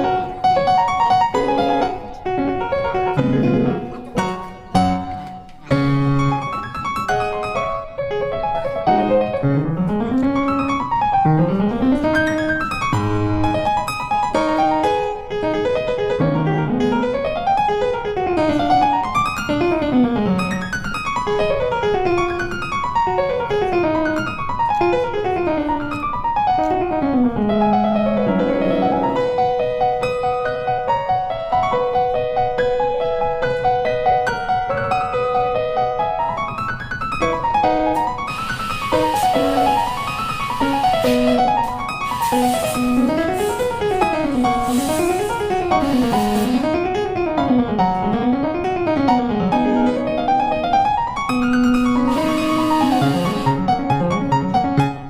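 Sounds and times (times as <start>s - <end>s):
piano music with quick runs: 0.0s - 55.0s.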